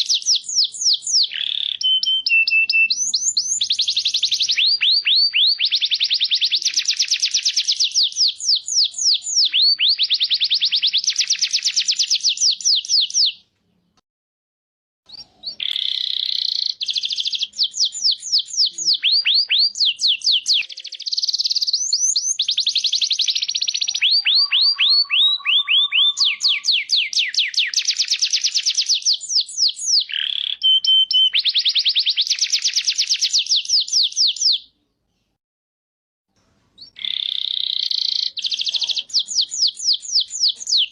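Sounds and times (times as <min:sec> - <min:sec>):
songbird trilling: 0:00.0 - 0:13.4, 0:15.1 - 0:34.6, 0:36.8 - 0:40.9.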